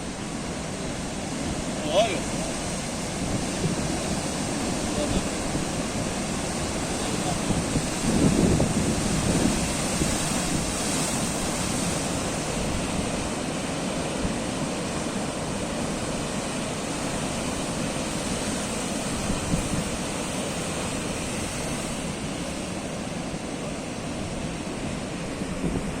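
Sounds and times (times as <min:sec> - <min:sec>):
sea waves breaking: 0:00.0 - 0:26.0
wind on microphone: 0:00.0 - 0:26.0.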